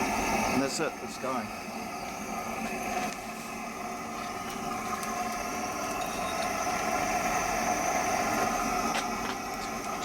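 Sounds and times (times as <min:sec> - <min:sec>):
oil burner flame rushing: 0:00.0 - 0:10.0.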